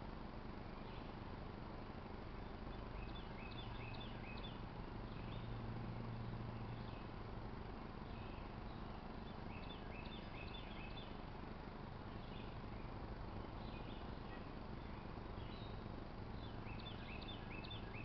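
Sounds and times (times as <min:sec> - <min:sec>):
steady background hiss: 0:00.0 - 0:18.0
small birds chirping: 0:00.5 - 0:18.0.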